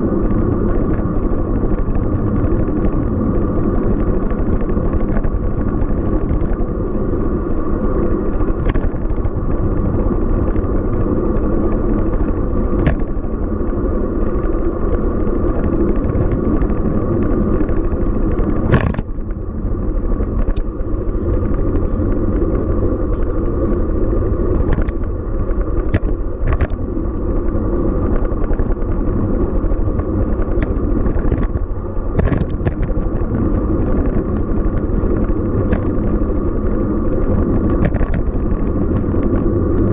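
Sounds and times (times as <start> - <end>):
bicycle clicks and rattles: 0.0 - 39.9
wind and tyre rumble: 0.0 - 39.9.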